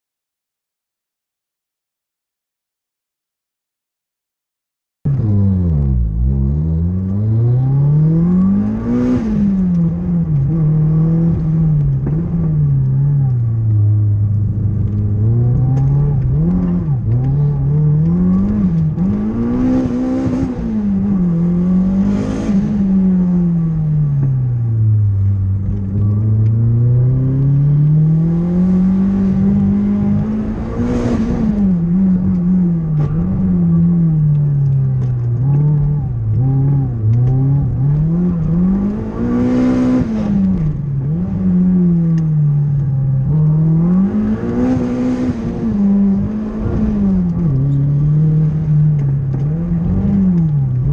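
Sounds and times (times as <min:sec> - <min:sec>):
car engine revving: 0:05.1 - 0:50.9.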